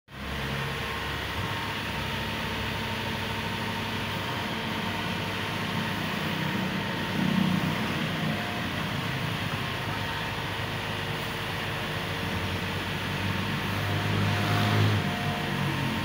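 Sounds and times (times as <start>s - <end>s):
diesel engine running: 0.1s - 16.0s.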